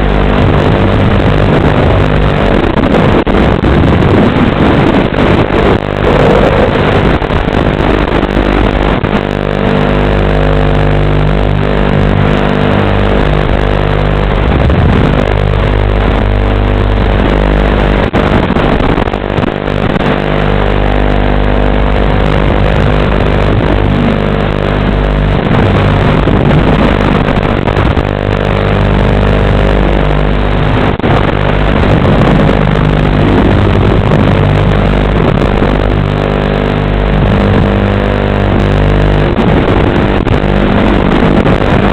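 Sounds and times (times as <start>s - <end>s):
quadcopter propellers buzzing: 0.0s - 41.9s.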